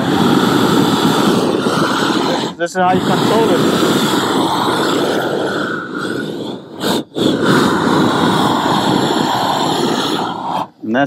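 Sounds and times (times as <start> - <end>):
propane torch burning: 0.0 - 11.0.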